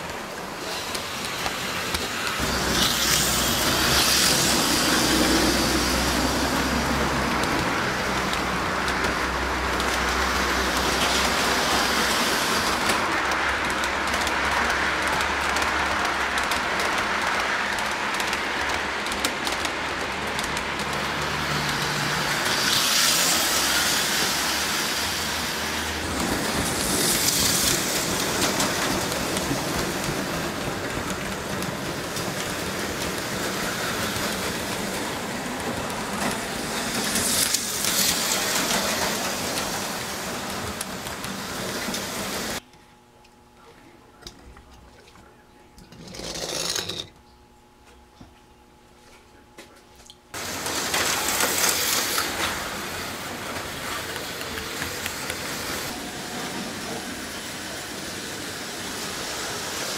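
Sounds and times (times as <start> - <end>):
model trains running on rails: 0.0 - 42.6, 45.9 - 47.1, 50.3 - 59.9.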